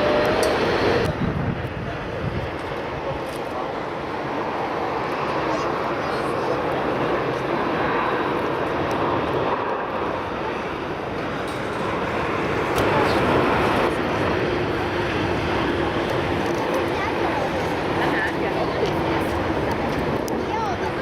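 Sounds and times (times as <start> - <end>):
airliner engine roar: 0.0 - 21.0.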